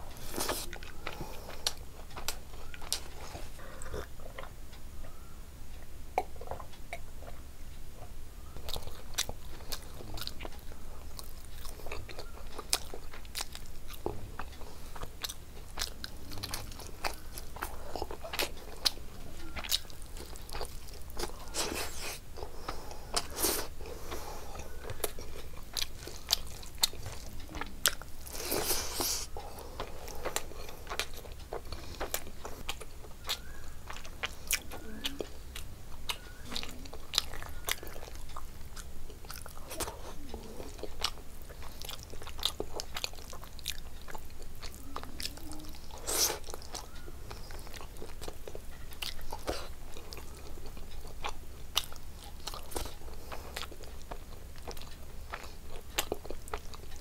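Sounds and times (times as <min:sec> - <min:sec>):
person chewing with wet smacks: 0:00.0 - 0:04.6, 0:05.8 - 0:07.4, 0:08.0 - 0:57.0.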